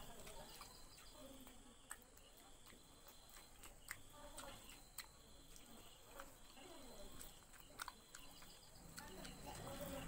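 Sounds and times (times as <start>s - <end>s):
faint eating clicks: 0.0s - 10.0s.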